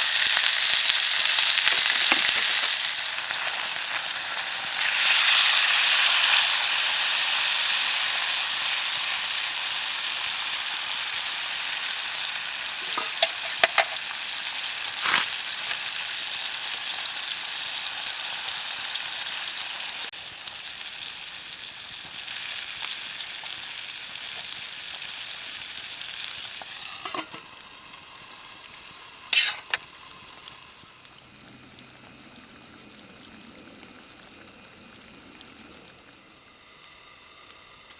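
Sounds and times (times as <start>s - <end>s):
food sizzling in frying pan: 0.0s - 37.9s.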